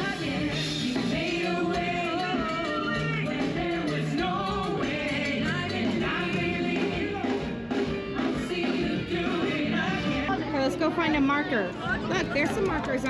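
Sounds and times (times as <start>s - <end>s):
music with singing voice: 0.0s - 13.0s.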